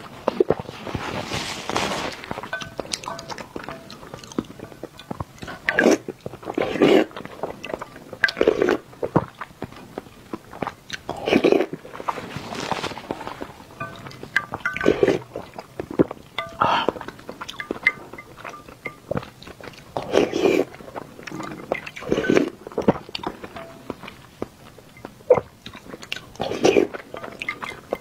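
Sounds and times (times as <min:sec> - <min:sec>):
wet chewing: 0:00.0 - 0:28.0
sipping and slurping: 0:00.2 - 0:28.0.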